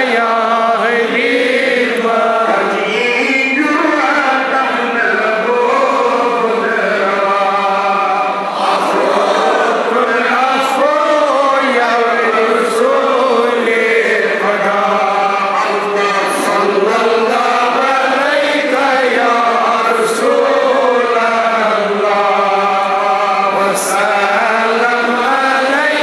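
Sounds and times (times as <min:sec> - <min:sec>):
men chanting in unison: 0:00.0 - 0:26.0.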